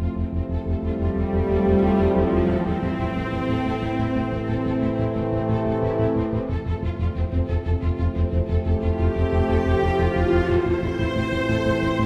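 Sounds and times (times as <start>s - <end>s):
orchestral sustained chord: 0.0s - 12.0s.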